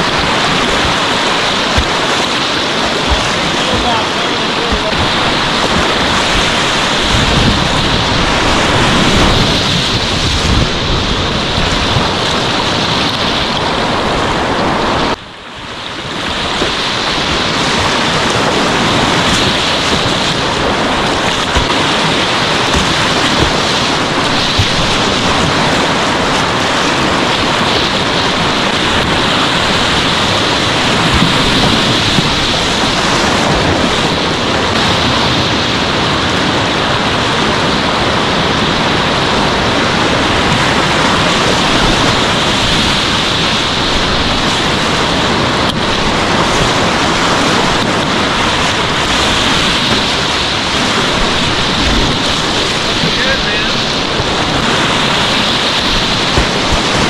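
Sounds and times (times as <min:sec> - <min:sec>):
whitewater rushing: 0:00.0 - 0:57.0.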